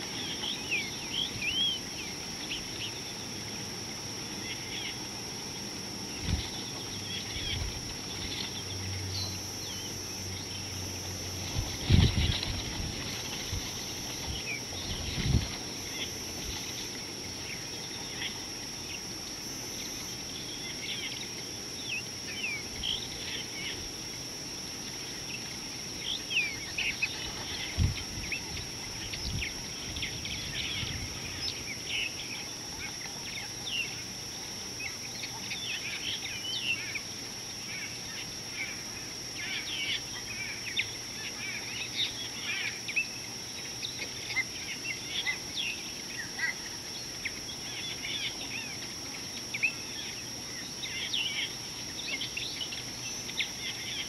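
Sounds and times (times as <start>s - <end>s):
birds chirping: 0.0s - 54.0s
high-pitched insect drone: 0.0s - 54.0s.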